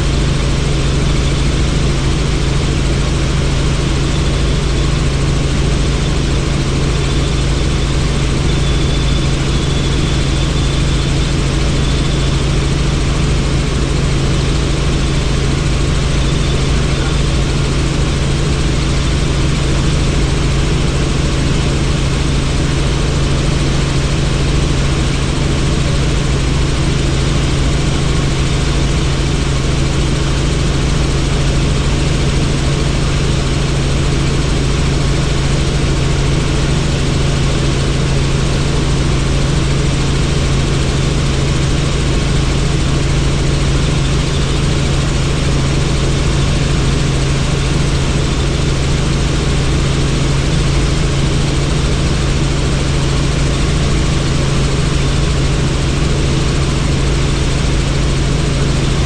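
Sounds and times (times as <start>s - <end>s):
helicopter rotor drone: 0.0s - 59.0s.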